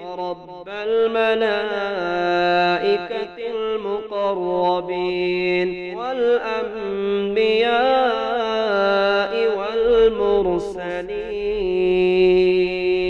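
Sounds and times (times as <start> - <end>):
person chanting: 0.0 - 13.0.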